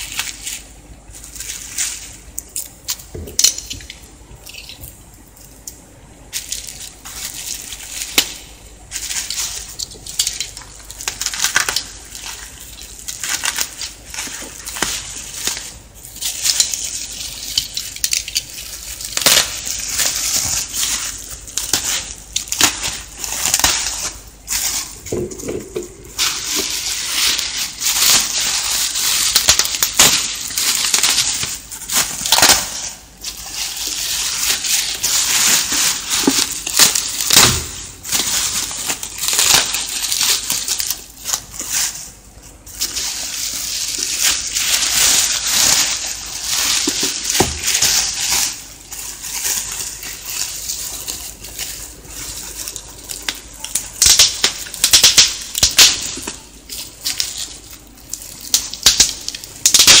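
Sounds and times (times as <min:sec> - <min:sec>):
bubble wrap crackling: 0:00.0 - 1:00.0.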